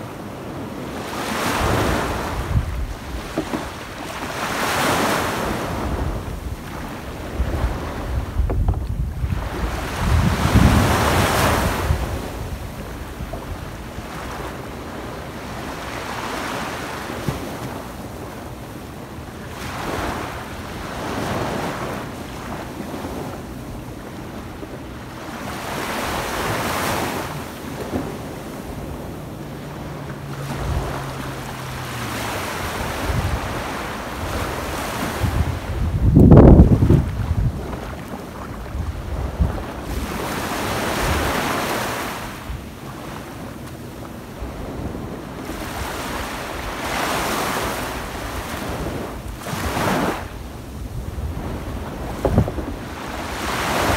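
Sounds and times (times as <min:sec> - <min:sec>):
small waves breaking on sand: 0:00.0 - 0:53.9
wind buffeting microphone: 0:00.0 - 0:53.9.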